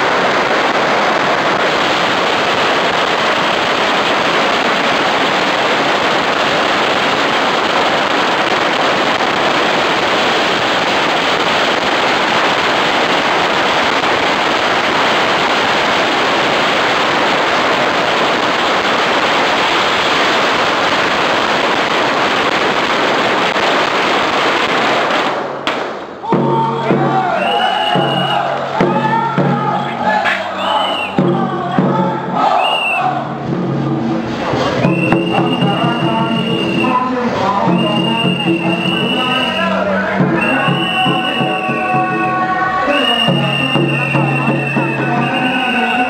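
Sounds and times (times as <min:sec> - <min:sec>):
firecrackers crackling: 0:00.0 - 0:46.0.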